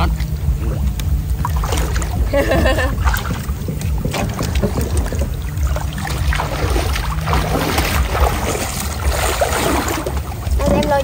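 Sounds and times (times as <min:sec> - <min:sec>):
floodwater sloshing and splashing: 0:00.0 - 0:11.0
steady low rumble: 0:00.0 - 0:11.0.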